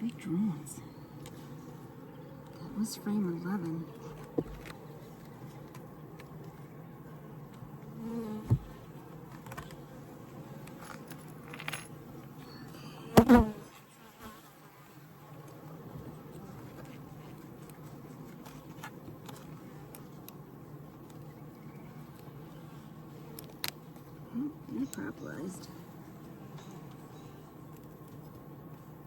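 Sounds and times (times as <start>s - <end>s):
bees humming: 0.0s - 29.0s.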